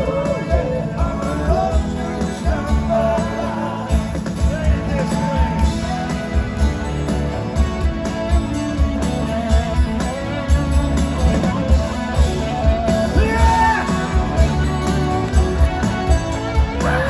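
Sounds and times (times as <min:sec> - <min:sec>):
bass: 0:00.0 - 0:17.0
drum beat: 0:00.0 - 0:17.0
guitar: 0:00.0 - 0:17.0.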